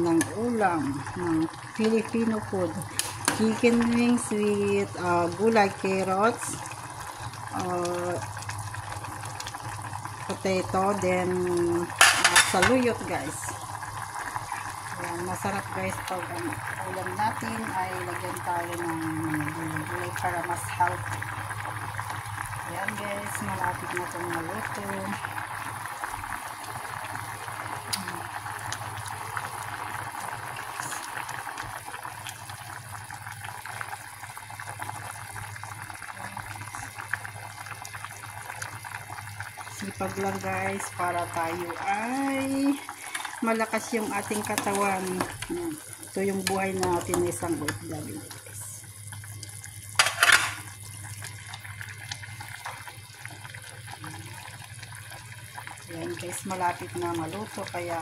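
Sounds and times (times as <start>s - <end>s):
broth boiling in a pot: 0.0s - 58.0s.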